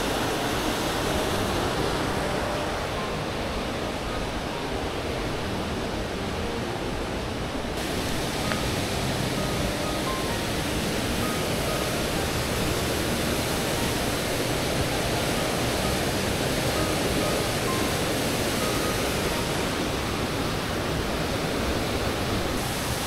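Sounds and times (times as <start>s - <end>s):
stream rushing over rocks: 0.0s - 23.0s.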